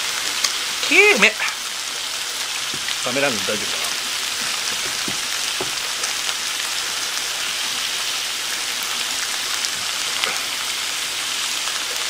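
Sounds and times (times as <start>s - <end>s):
food sizzling in a frying pan: 0.0s - 12.0s
fat spattering crackles: 0.4s - 12.0s.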